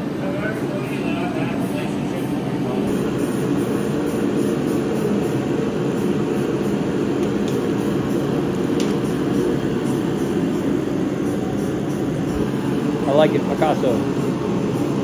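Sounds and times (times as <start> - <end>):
forced-air heater roaring: 0.0 - 15.0.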